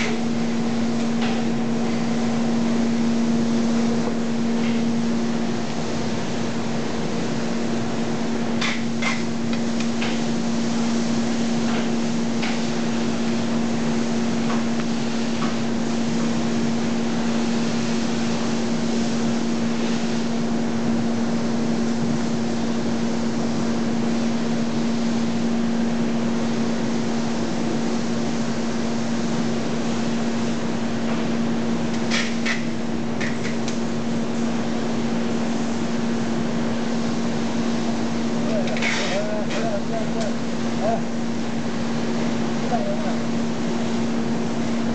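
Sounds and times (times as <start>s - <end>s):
factory noise: 0.0s - 44.9s
steady machine hum: 0.0s - 44.9s.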